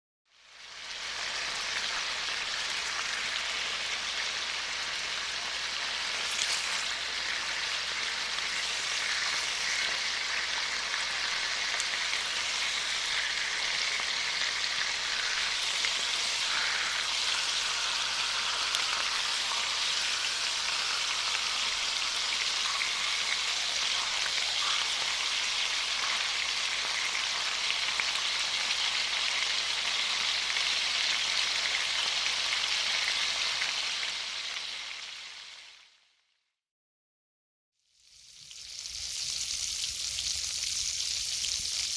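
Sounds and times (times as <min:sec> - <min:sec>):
food sizzling in hot oil: 0:00.3 - 0:35.9, 0:37.8 - 0:41.9.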